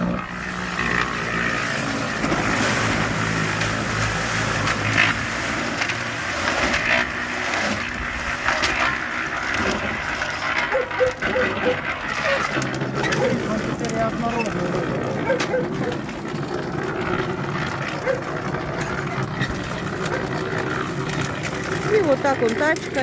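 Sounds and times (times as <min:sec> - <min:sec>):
concrete mixer drone: 0:00.0 - 0:23.0
mixer squeaking: 0:00.0 - 0:23.0
mortar scraping and rattling in drum: 0:00.0 - 0:23.0.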